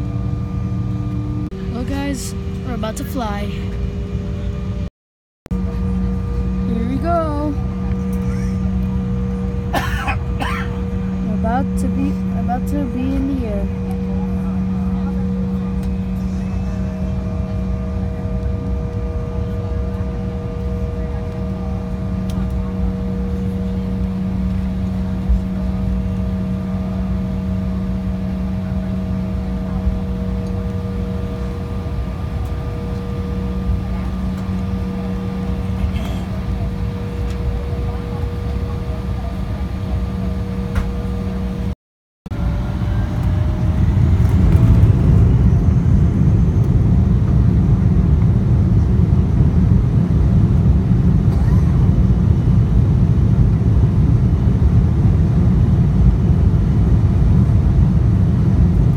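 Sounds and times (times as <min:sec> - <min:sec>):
jet engines humming in cabin: 0:00.0 - 0:04.9, 0:05.5 - 0:58.9
jet engines spooling up whine: 0:00.0 - 0:04.9, 0:05.5 - 0:58.9.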